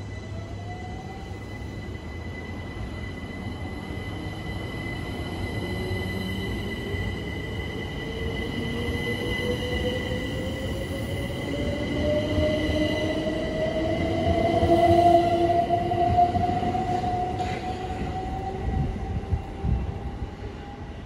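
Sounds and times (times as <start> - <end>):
train wheels rumbling: 3.1 - 20.9.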